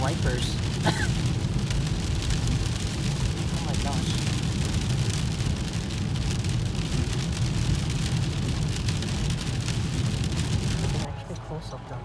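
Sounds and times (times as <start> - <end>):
rain on car windshield: 0.0 - 11.2
car rolling on wet road: 0.0 - 12.0.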